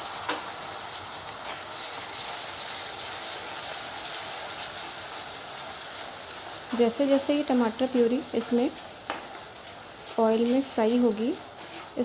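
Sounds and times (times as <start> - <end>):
tomato puree sizzling in oil: 0.0 - 12.0.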